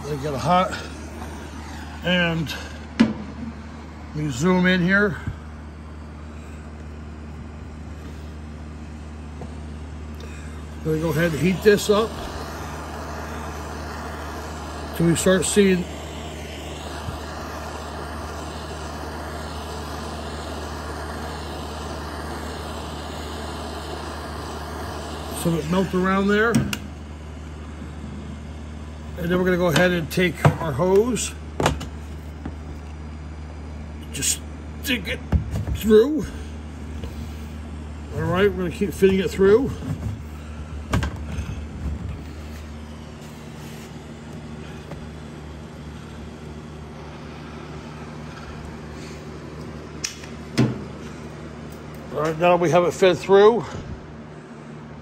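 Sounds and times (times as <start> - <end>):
torch flame hissing: 0.0 - 54.8
steady low hum: 0.0 - 55.0.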